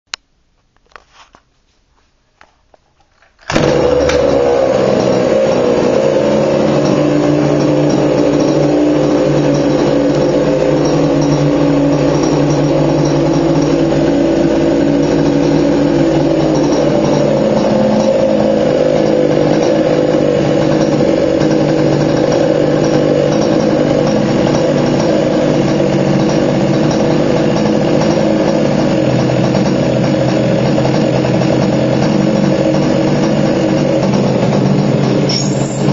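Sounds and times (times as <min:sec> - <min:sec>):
small two-stroke engine running: 0:03.4 - 0:35.9.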